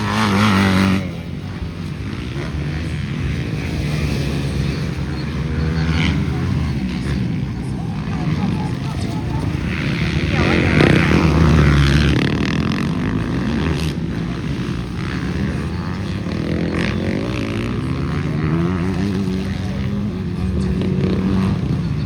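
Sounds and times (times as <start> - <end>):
motocross engines revving: 0.0 - 22.0.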